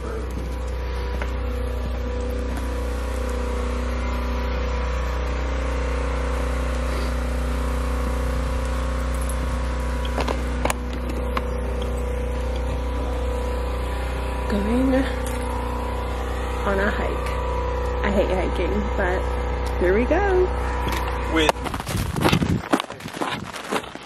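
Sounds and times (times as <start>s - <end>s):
low mechanical drone: 0.0s - 24.0s.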